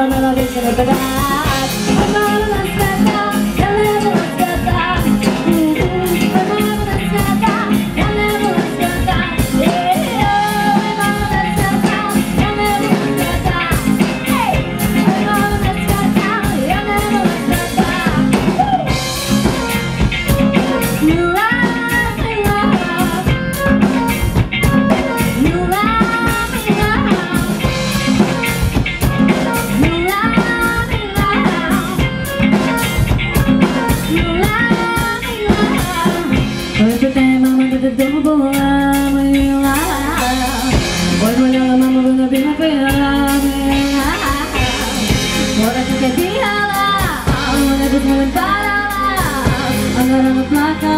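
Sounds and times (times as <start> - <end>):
drum kit: 0.0 - 50.9
guitar with bending notes: 0.0 - 50.9
live rock band playing: 0.0 - 50.9.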